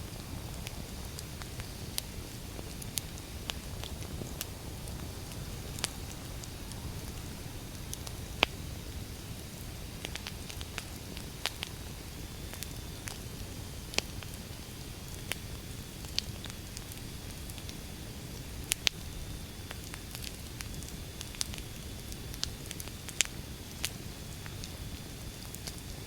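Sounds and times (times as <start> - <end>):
low rush of flames: 0.0 - 25.9
burning logs crackling and popping: 0.0 - 26.0.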